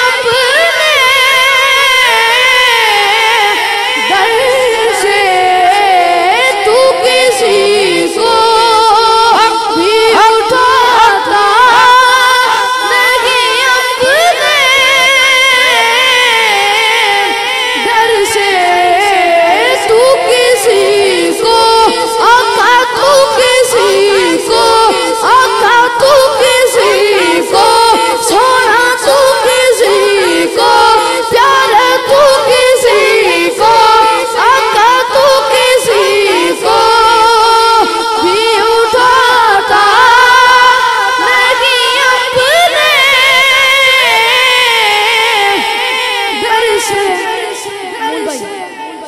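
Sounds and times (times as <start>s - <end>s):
person singing devotional song: 0.0s - 49.0s.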